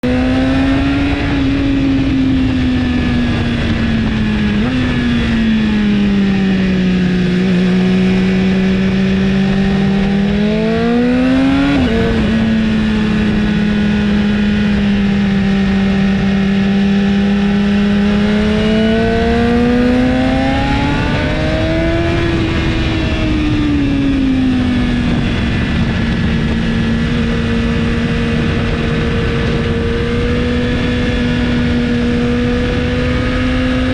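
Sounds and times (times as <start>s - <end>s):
motorcycle engine at speed: 0.0s - 33.9s
wind noise: 0.0s - 33.9s.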